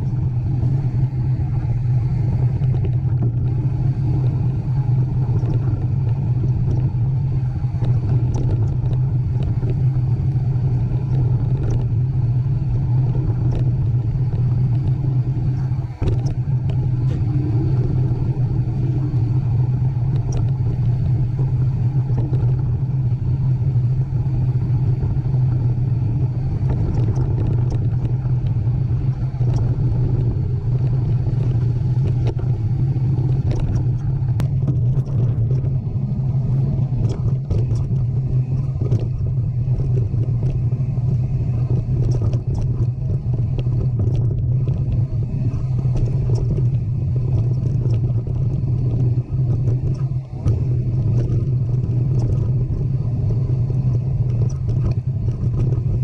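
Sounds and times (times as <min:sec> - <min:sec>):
vehicle engine rumble: 0:00.0 - 0:56.0.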